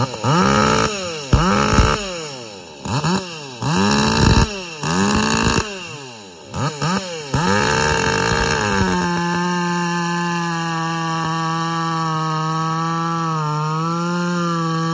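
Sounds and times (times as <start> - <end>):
chainsaw revving: 0.0 - 14.9.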